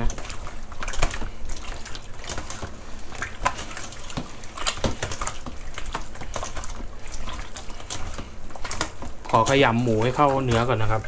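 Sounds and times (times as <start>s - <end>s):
wet squelches of kneaded meat: 0.0s - 11.0s.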